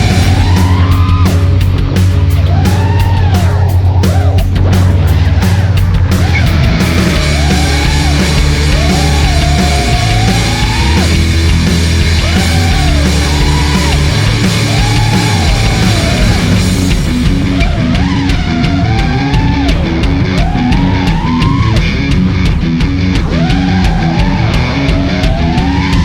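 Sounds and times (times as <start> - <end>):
loud rock music: 0.0 - 26.0
steady drum beat: 0.0 - 26.0.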